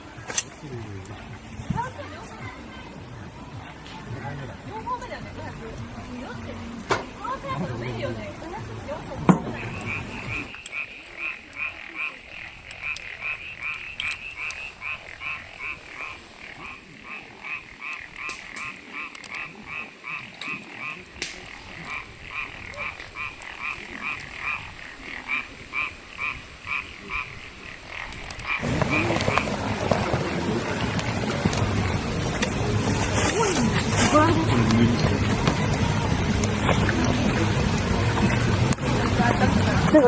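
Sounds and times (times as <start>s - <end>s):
frogs croaking: 0.0s - 40.0s.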